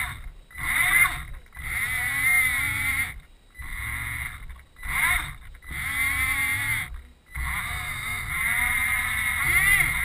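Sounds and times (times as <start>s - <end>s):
electric motors whining: 0.0s - 10.0s.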